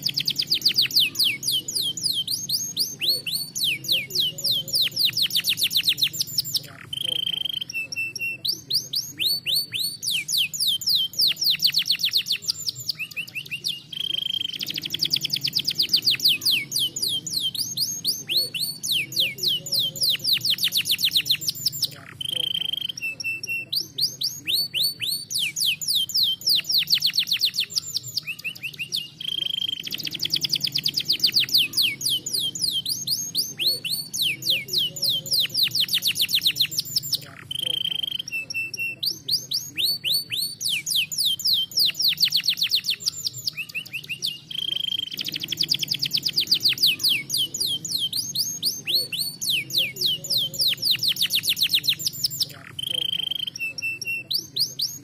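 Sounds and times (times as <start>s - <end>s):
canary trilling: 0.0s - 55.0s.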